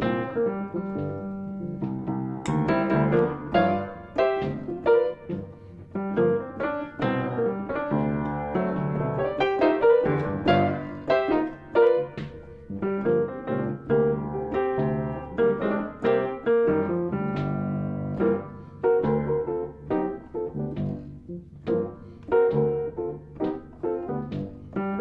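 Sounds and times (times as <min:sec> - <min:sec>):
solo piano: 0:00.0 - 0:25.0.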